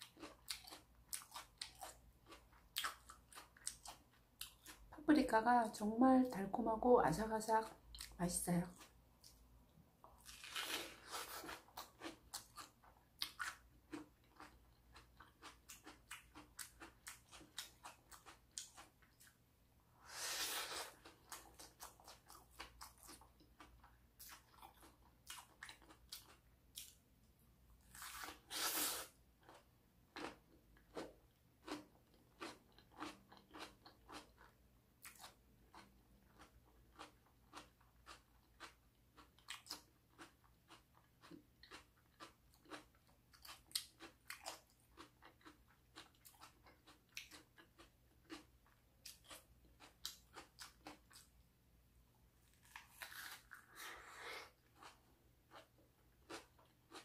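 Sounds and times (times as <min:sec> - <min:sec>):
chewing crisp bell pepper: 0:00.0 - 0:05.0, 0:07.2 - 0:09.4, 0:10.0 - 0:19.4, 0:20.1 - 0:27.0, 0:27.8 - 0:51.4, 0:52.4 - 0:57.0.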